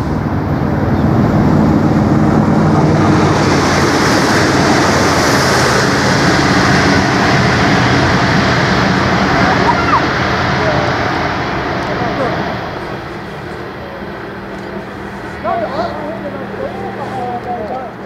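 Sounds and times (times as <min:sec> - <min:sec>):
diesel engine drone: 0:00.0 - 0:18.0
train wheel and rail noise: 0:00.0 - 0:18.0.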